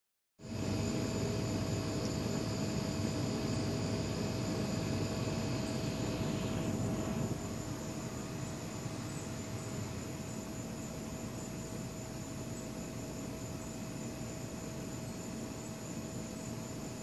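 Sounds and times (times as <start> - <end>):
faint steady hum: 0.4 - 17.0
low rumbling background noise: 0.4 - 17.0.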